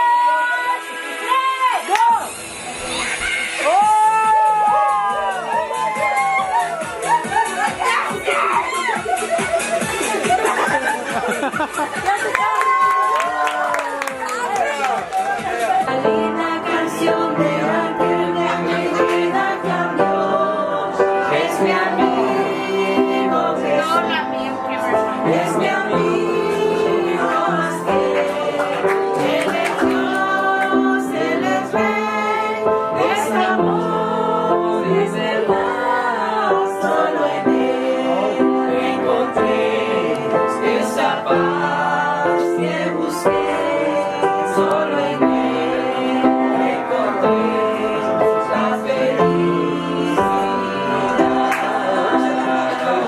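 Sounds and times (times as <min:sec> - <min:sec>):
music with singing and beat: 0:00.0 - 0:53.0.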